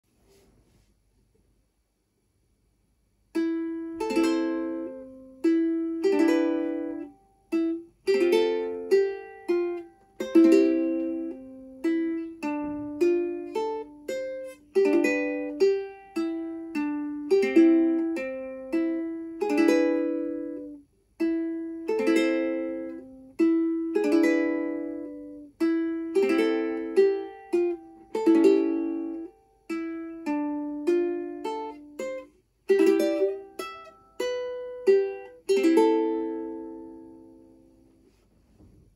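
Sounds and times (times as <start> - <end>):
ukulele melody: 3.3 - 38.8.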